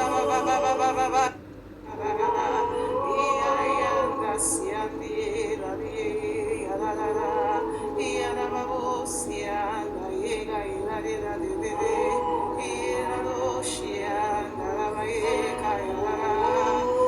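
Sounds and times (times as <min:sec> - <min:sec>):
person chanting with vibrato: 0:00.0 - 0:17.0.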